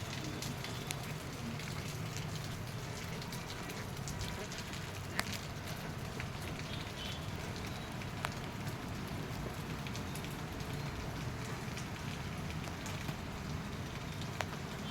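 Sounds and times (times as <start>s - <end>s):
heavy rain falling: 0.0s - 14.9s
water drips and splashes: 0.0s - 14.9s.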